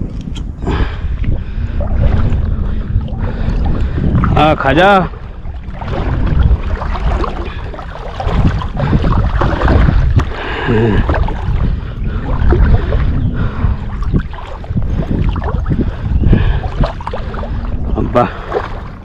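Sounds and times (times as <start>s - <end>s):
water sloshing from wading: 0.0s - 19.0s
wind buffeting microphone: 0.0s - 19.0s.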